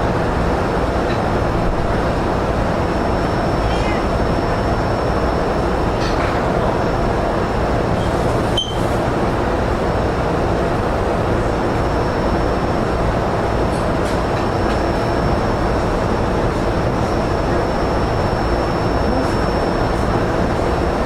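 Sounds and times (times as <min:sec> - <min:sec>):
train interior noise: 0:00.0 - 0:21.0.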